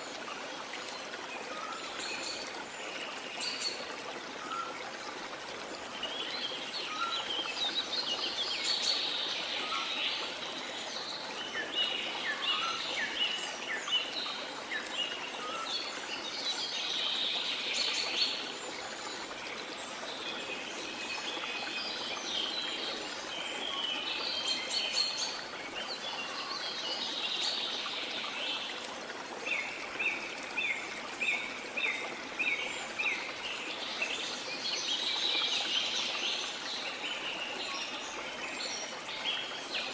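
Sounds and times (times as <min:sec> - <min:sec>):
waterfall running water: 0:00.0 - 0:39.9.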